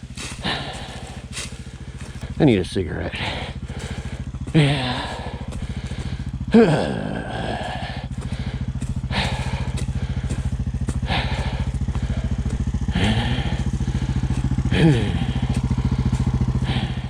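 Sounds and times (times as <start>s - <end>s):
quad engine idling: 0.0s - 17.0s.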